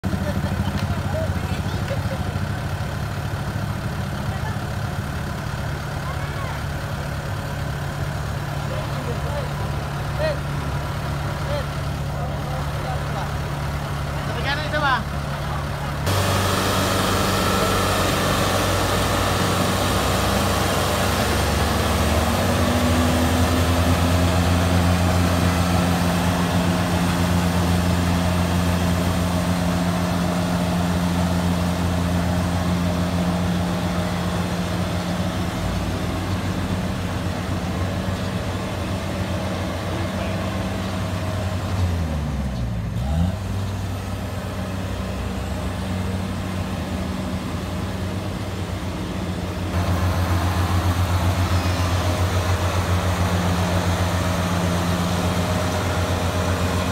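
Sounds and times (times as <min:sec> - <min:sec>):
diesel engine humming: 0:00.0 - 0:56.9.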